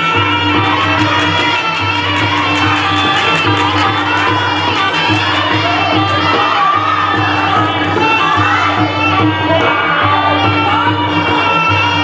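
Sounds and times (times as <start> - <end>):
wavering wind instrument melody: 0.0 - 12.0.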